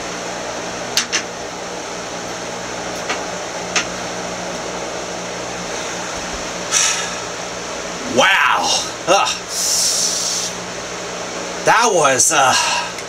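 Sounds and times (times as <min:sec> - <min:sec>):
fan whirring with low hum: 0:00.0 - 0:13.0.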